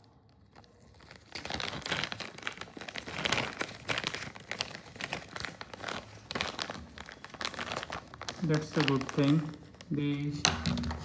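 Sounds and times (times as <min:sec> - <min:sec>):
pouch rustling and crinkling: 0:00.5 - 0:10.4.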